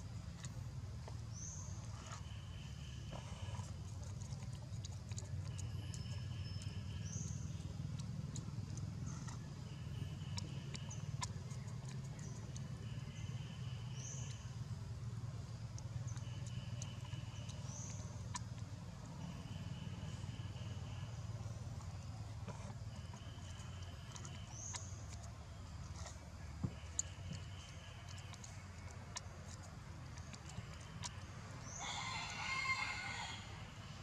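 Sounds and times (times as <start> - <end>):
steady low hum: 0.0 - 32.4.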